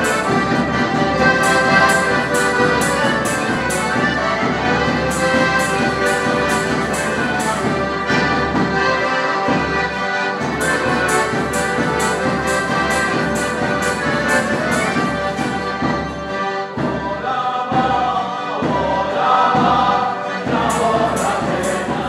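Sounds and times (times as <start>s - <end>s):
accordions playing melody: 0.0s - 22.0s
drum beating time: 0.0s - 22.0s
guitar: 0.0s - 22.0s.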